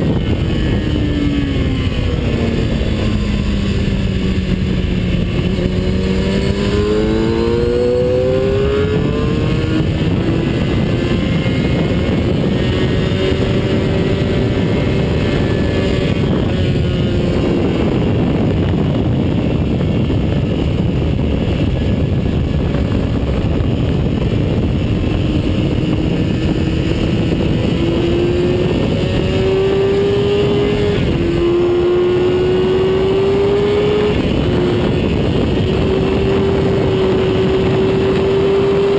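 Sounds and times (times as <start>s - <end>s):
wind rushing: 0.0s - 38.9s.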